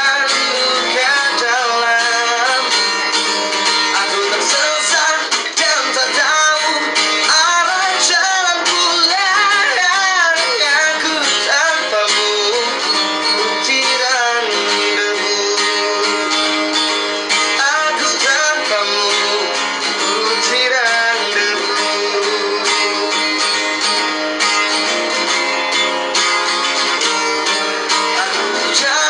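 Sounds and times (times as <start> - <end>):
person singing: 0.0 - 25.5, 26.8 - 29.0
strummed acoustic guitar: 0.0 - 29.0.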